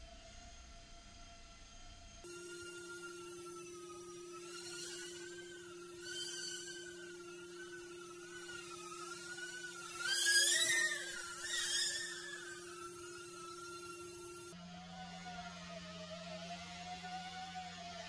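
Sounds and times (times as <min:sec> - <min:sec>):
electric propellers whining: 0:00.0 - 0:18.0.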